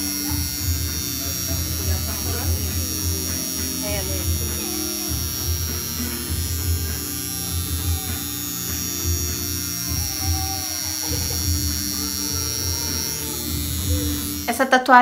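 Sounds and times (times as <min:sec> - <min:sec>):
tattoo machine buzzing: 0:00.0 - 0:14.6.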